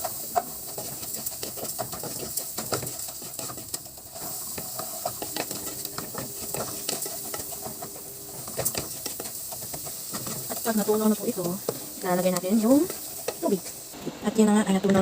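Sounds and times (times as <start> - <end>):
small crackles: 0.0 - 14.0
butter and rice sizzling: 0.0 - 15.0.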